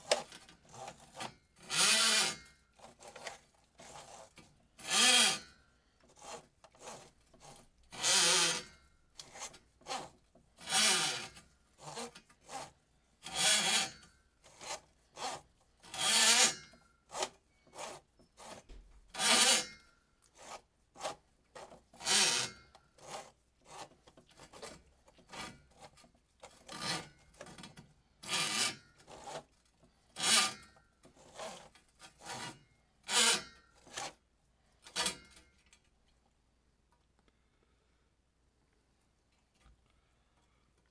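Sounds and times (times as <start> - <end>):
drain cable rasping against pipe: 0.0 - 34.2.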